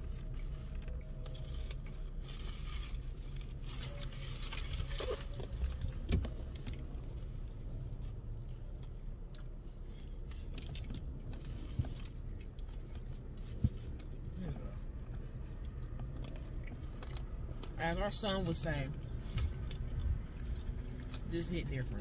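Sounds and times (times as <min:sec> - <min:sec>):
low rumble in car: 0:00.0 - 0:22.0
people chewing food: 0:00.0 - 0:22.0.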